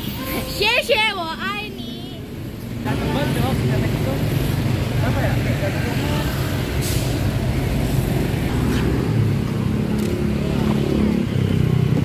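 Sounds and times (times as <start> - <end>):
cars and motorcycles passing: 0.0 - 12.0.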